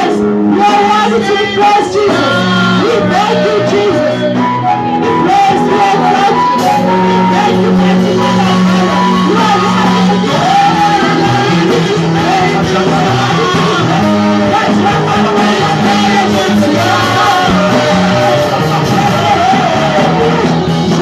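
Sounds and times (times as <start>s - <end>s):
held bass notes: 0.0s - 21.0s
loud worship singing: 0.0s - 21.0s.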